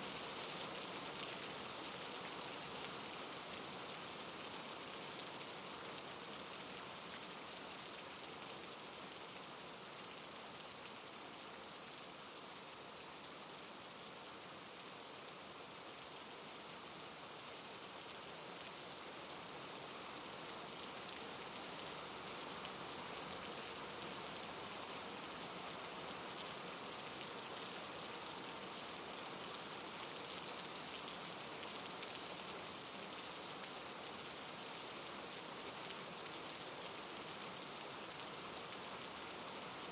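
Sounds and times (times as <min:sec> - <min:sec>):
soft rain patter: 0:00.0 - 0:39.9.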